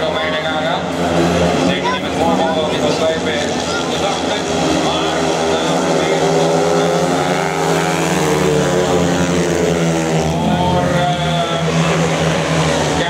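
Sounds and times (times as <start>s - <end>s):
motorcycles racing: 0.0s - 13.0s.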